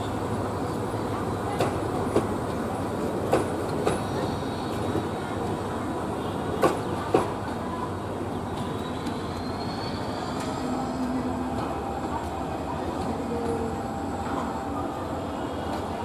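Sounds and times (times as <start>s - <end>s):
train carriages rumbling on track: 0.0s - 16.0s.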